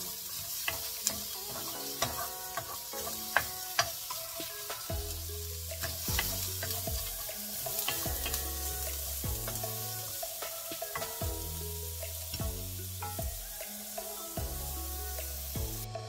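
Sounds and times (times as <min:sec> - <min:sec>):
background music with bass notes: 0:00.0 - 0:16.0
carrots sizzling in hot oil: 0:00.0 - 0:16.0.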